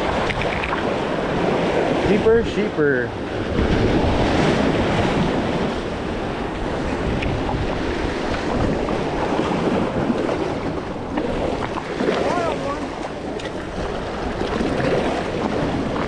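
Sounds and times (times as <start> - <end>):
waves splashing against rocks: 0.0 - 16.0
wind buffeting microphone: 0.0 - 16.0.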